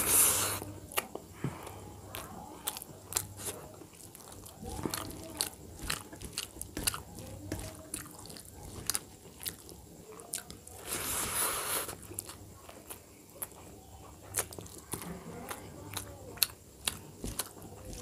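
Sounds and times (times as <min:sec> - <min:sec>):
wet chewing clicks and smacks: 0:00.9 - 0:10.8, 0:11.9 - 0:18.0.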